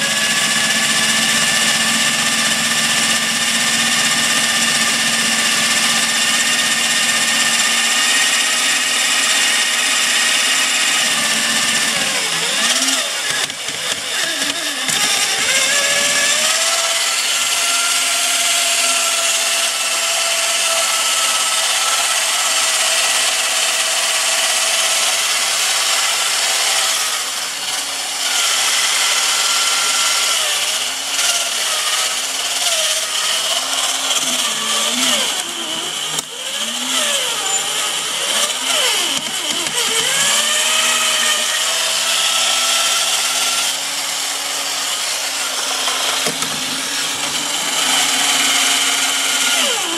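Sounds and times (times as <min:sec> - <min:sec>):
toy robot motors whining: 0:00.0 - 0:25.2, 0:26.0 - 0:49.9.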